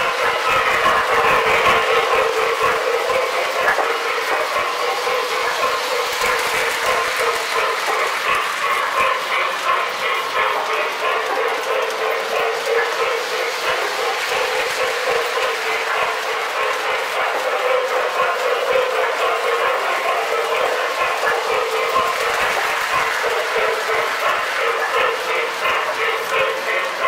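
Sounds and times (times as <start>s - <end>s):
toy train humming: 0.0s - 27.0s.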